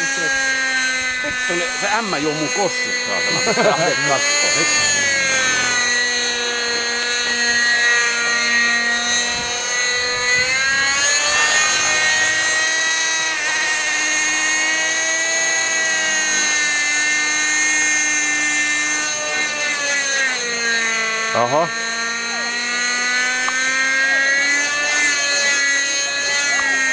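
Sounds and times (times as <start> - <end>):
model helicopter engine whine: 0.0 - 26.9.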